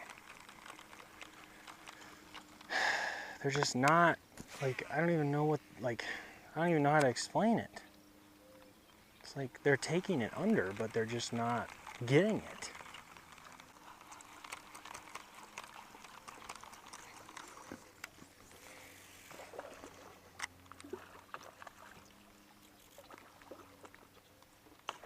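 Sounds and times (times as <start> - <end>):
water lapping against a boat: 0.0 - 25.0.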